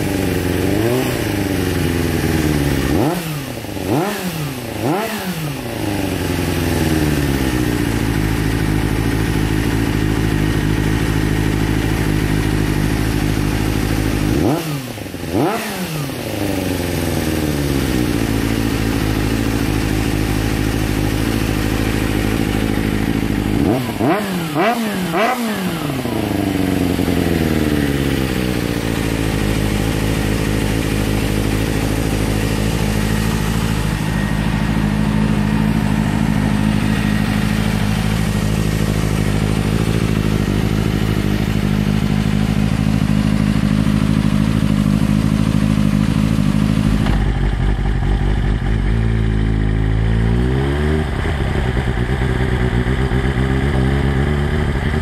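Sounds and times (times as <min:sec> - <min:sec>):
motorcycle engine idling: 0:00.0 - 0:55.0
motorcycle engine revving: 0:00.0 - 0:55.0.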